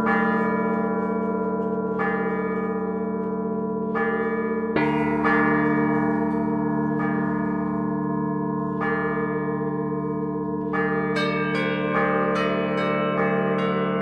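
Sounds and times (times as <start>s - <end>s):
heavy church bells humming: 0.0s - 14.0s
higher church bells struck: 0.0s - 14.0s.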